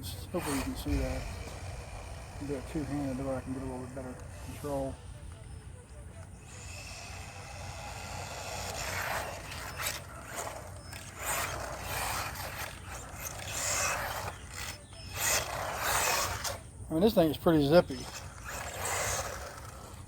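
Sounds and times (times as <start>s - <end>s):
toy truck electric motor whirring: 0.0s - 20.0s.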